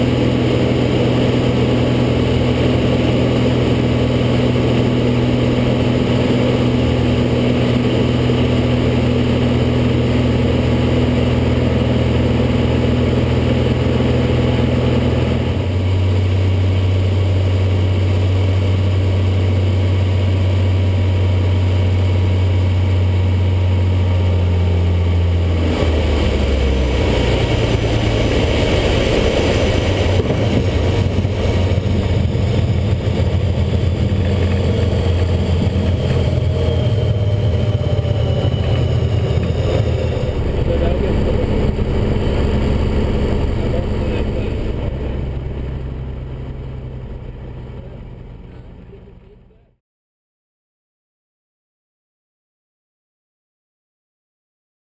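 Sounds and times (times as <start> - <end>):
propeller aircraft engine droning: 0.0 - 49.8.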